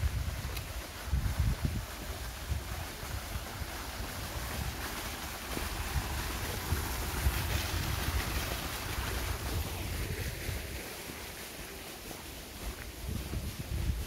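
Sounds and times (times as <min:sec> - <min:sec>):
wind buffeting microphone: 0:00.0 - 0:11.2, 0:12.5 - 0:14.0
small waterfall splashing: 0:00.0 - 0:14.0
stream running over stones: 0:00.0 - 0:14.0.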